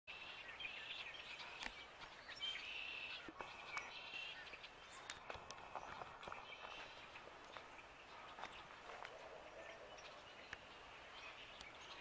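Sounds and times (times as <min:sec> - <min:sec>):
birds chirping and twittering: 0:00.1 - 0:12.0.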